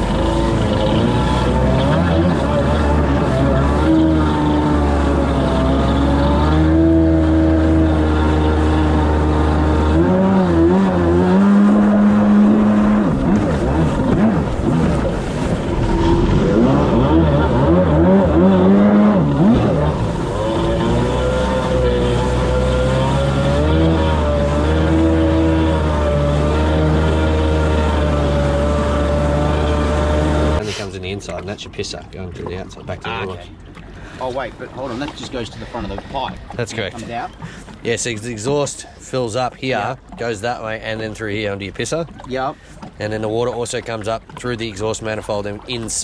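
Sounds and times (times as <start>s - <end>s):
jet ski engine running: 0.0s - 46.0s.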